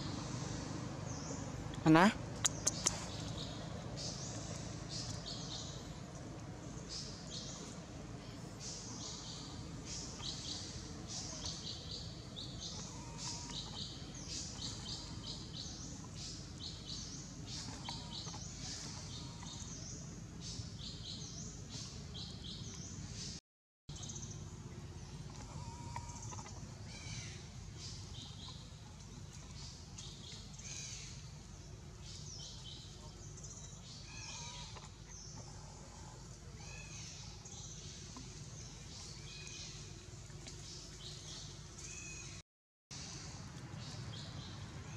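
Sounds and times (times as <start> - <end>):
birds chirping: 0.0 - 42.4
low background noise: 0.0 - 42.4.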